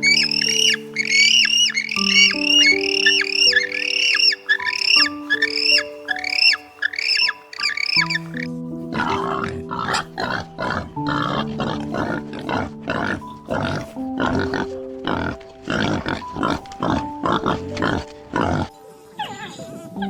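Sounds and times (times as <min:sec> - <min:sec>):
animal making short noisy calls: 0:00.0 - 0:18.7
soft background music: 0:00.0 - 0:20.0.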